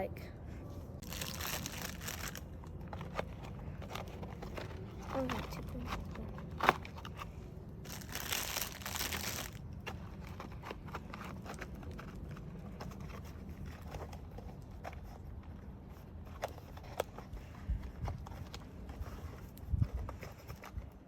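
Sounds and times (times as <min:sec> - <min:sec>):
paper crinkling and rustling: 0:01.0 - 0:21.0.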